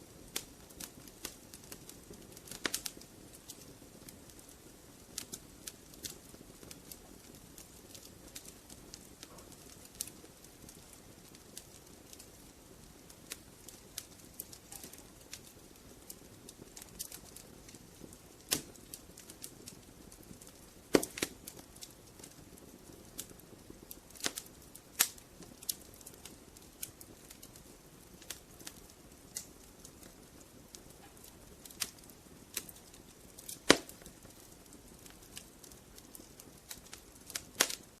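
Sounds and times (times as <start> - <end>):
faint low hiss: 0.0 - 38.0
logs crackling in fireplace: 0.0 - 38.0.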